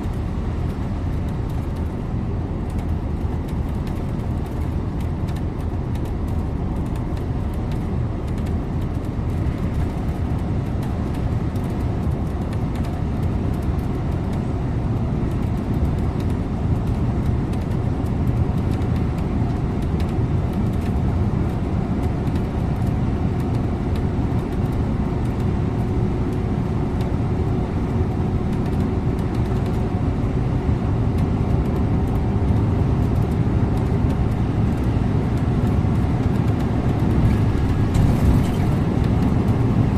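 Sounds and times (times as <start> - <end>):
bus engine drone: 0.0 - 39.9
tyre and road rumble: 0.0 - 39.9.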